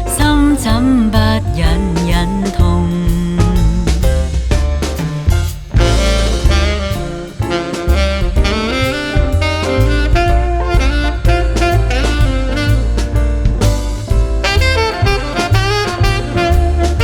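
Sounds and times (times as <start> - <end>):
pop ballad instrumental: 0.0 - 17.0.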